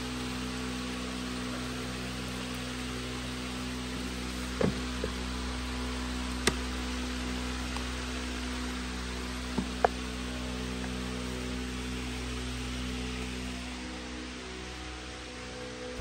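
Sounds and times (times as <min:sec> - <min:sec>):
steady hum and hiss: 0:00.0 - 0:16.0.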